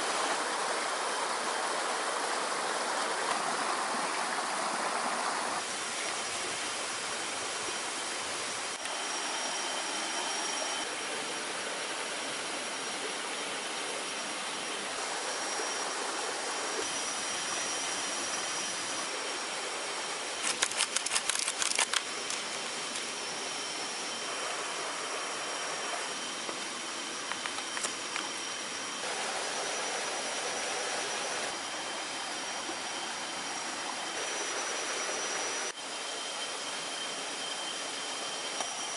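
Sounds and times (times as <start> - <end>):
stream rushing: 0.0 - 38.9
faint high insect tones: 0.2 - 38.9.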